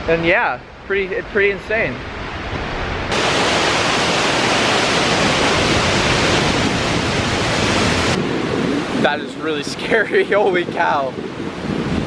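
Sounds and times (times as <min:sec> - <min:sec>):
large waterfall roaring: 0:00.2 - 0:12.0.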